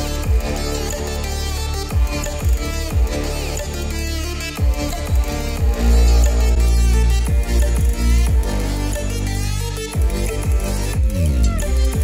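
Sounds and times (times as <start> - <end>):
deep bass line: 0.0 - 12.0
electronic dance music: 0.0 - 12.0.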